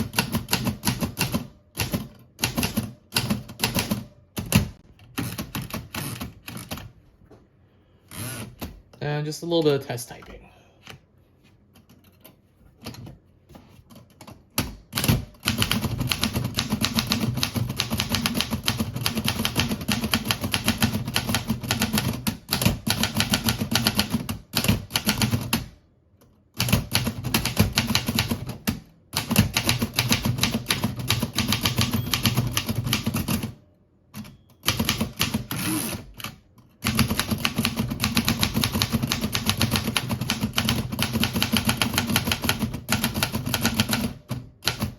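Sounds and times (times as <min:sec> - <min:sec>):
manual typewriter typing: 0:00.0 - 0:06.9, 0:13.9 - 0:25.7, 0:26.5 - 0:44.9.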